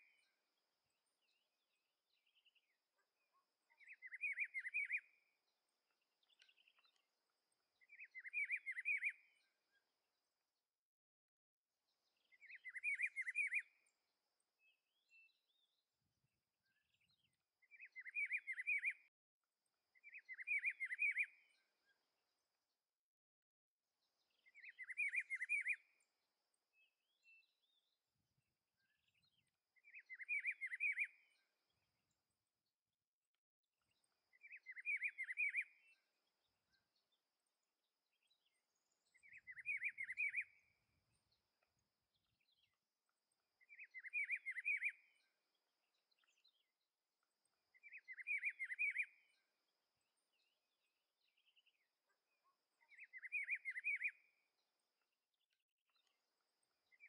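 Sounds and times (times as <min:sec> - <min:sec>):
bird singing warbled phrases: 0:00.0 - 0:10.2, 0:11.9 - 0:19.1, 0:19.7 - 0:22.6, 0:24.0 - 0:57.0.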